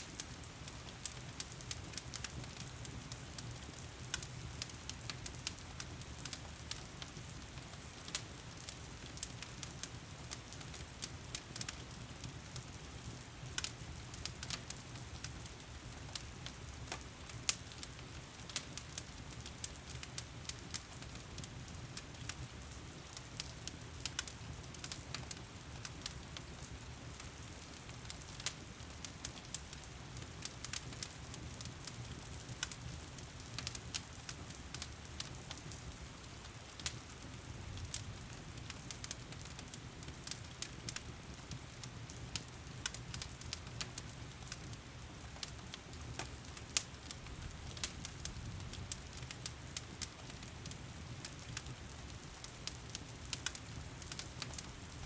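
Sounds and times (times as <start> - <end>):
fireplace crackling and popping: 0.0 - 55.0.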